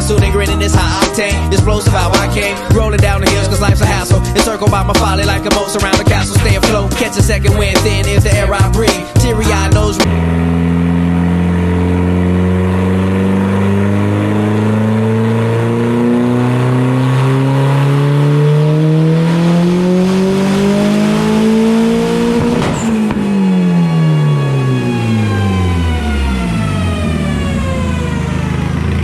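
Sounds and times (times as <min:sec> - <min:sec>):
turbocharged engine revving: 0:00.0 - 0:29.0.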